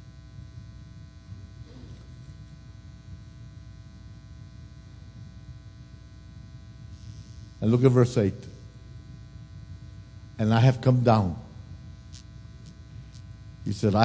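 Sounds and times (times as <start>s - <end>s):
electrical buzz and hum: 0.0s - 14.0s.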